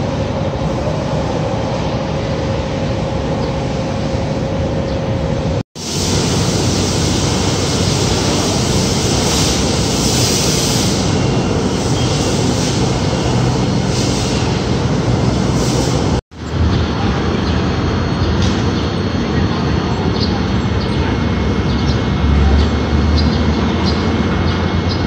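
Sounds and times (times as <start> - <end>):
belt conveyor running: 0.0 - 25.0.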